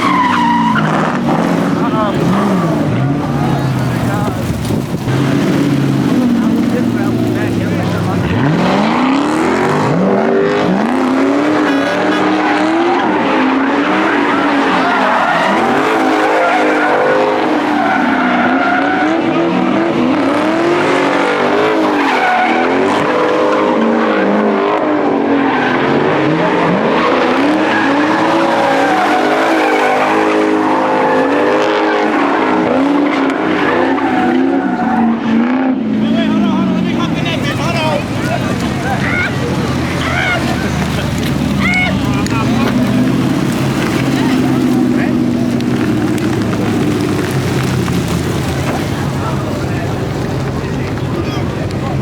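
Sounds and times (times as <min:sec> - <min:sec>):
car engine revving: 0:00.0 - 0:52.0
tyres squealing: 0:00.0 - 0:52.0.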